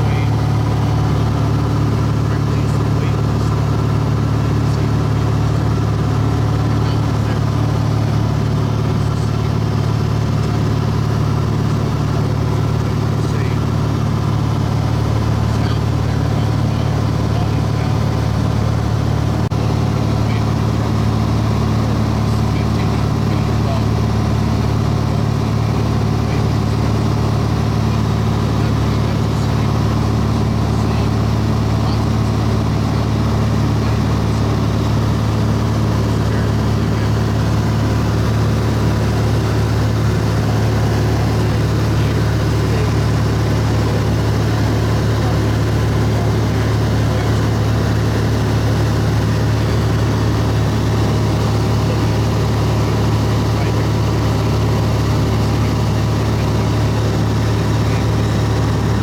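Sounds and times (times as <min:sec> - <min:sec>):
airplane engine drone in cabin: 0:00.0 - 0:59.0.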